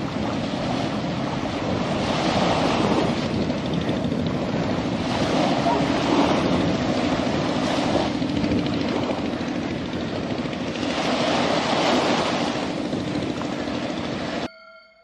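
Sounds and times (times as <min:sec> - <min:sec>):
diesel locomotive engine running: 0:00.0 - 0:14.5
sea surf: 0:00.0 - 0:14.5
wind noise: 0:00.0 - 0:14.5.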